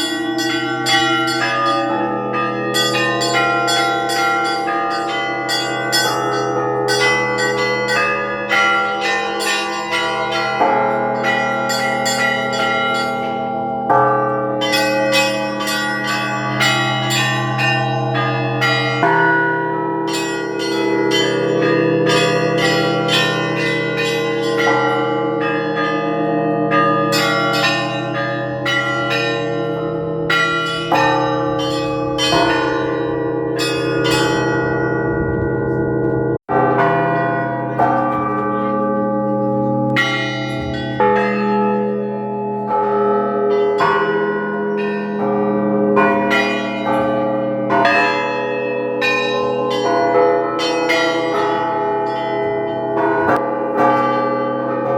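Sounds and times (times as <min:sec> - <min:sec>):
large bells ringing: 0:00.0 - 0:54.9.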